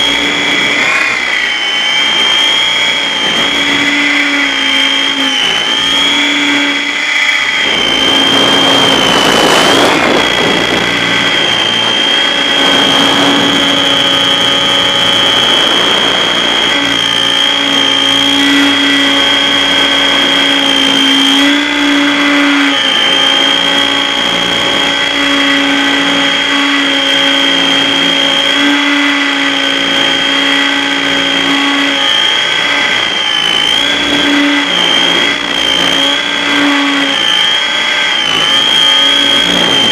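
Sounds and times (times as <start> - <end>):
aircraft motor and propeller whine: 0.0 - 39.9
wind noise: 0.0 - 39.9.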